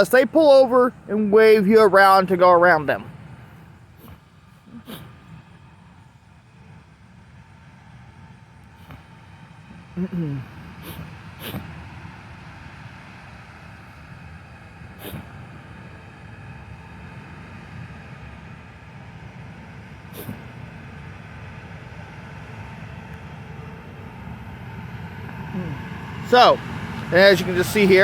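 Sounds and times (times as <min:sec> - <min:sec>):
low engine rumble: 0:00.0 - 0:28.0.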